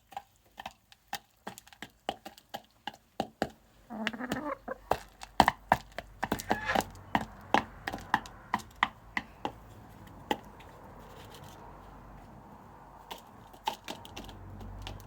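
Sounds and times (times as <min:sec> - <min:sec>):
chickens pecking at grain: 0:00.0 - 0:15.0.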